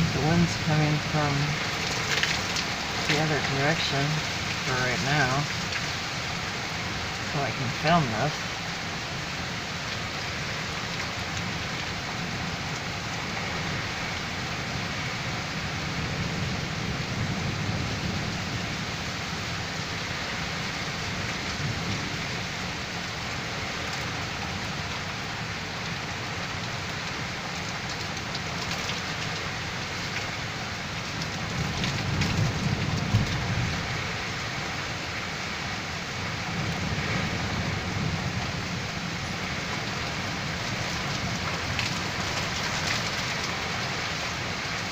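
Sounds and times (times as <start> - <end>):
strong storm wind blowing: 0.0 - 27.4, 30.6 - 44.9
heavy rain falling: 0.0 - 44.9.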